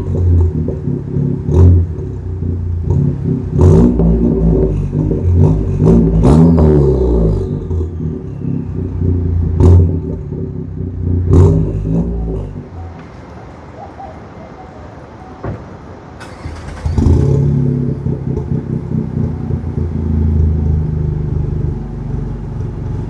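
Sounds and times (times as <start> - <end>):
car engine revving: 0.0 - 13.7, 15.8 - 23.0.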